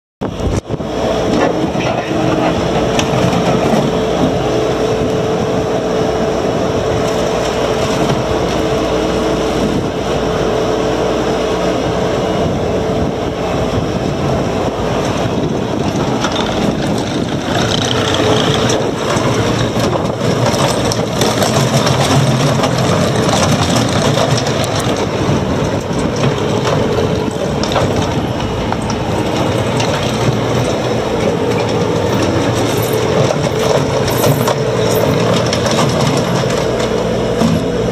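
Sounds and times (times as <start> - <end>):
diesel engine running: 0.2 - 37.9.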